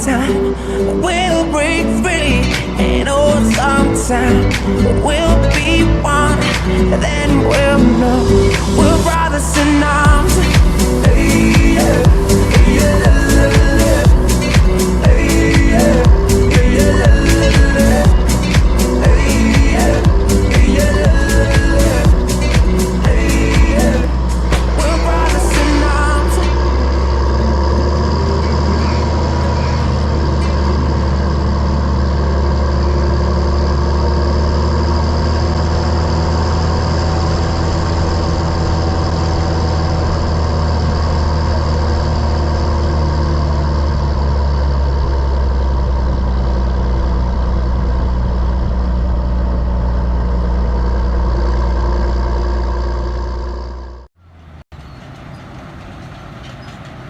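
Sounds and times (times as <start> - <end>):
large diesel engine droning: 0.0 - 57.0
quieter engine noise: 0.0 - 57.0.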